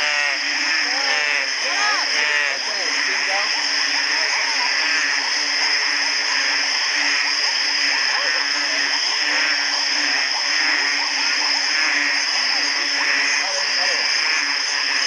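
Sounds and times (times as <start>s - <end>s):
frogs calling: 0.0s - 15.0s
high-pitched drone: 0.0s - 15.0s.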